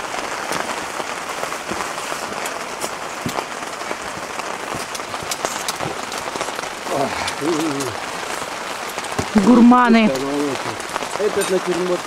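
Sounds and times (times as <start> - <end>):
sea washing on rocks: 0.0 - 12.0.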